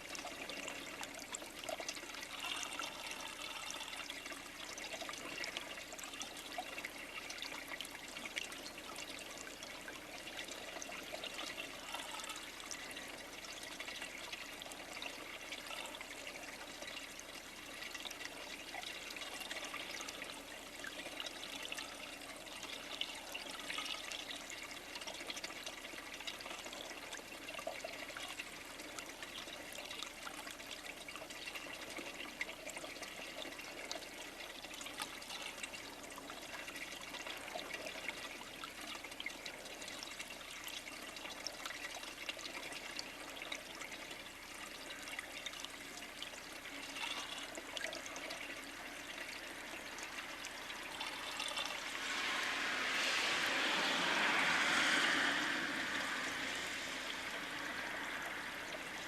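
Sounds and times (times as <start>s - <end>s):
small ticks and drips: 0.0s - 59.0s
water trickling and splashing: 0.0s - 59.0s.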